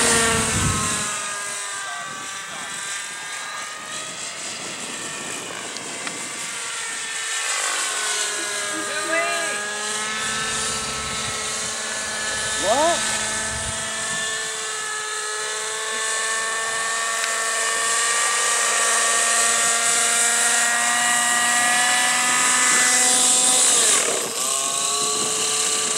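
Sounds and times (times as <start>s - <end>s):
helicopter engine and rotor whine: 0.0s - 25.9s.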